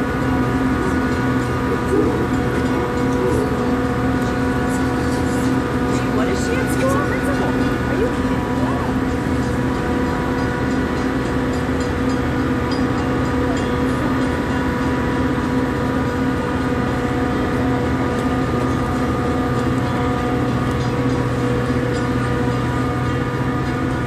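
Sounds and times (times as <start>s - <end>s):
commuter train humming: 0.0s - 24.0s.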